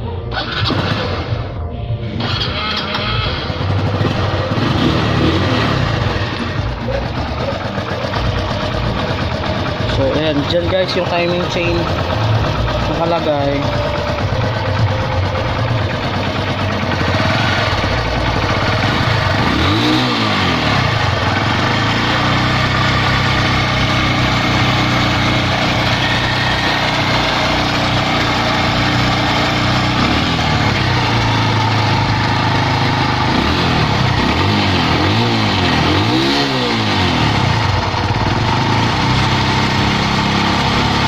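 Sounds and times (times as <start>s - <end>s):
motorcycle engine idling and blipping: 0.0s - 41.0s
noisy timing chain: 6.5s - 40.3s.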